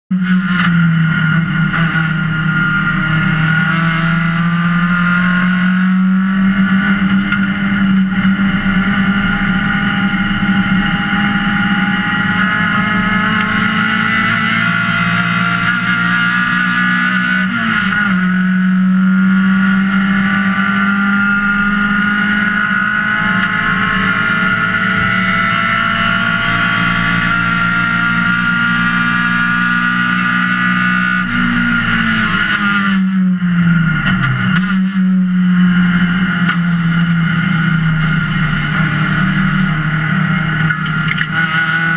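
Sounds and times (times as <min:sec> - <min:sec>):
race car engine at high revs: 0:00.1 - 0:41.9.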